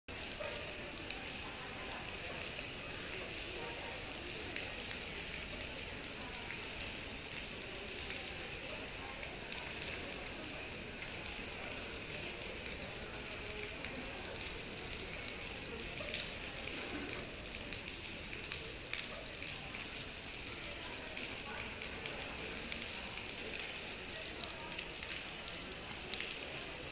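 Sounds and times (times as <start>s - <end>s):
rainwater splashing and dripping: 0.1s - 26.9s.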